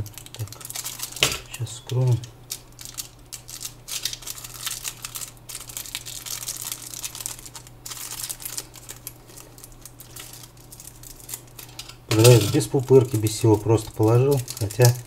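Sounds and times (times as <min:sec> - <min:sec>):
plastic packet crinkling: 0:00.0 - 0:15.0.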